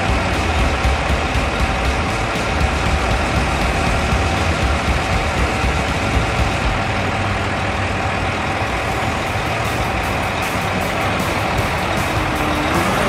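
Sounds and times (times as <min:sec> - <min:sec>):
traffic noise: 0:00.0 - 0:13.0
truck diesel engine running: 0:00.0 - 0:13.0.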